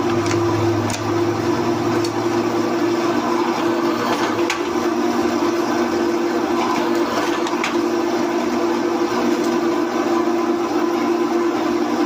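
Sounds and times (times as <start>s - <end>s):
drill press hum: 0.0s - 11.9s.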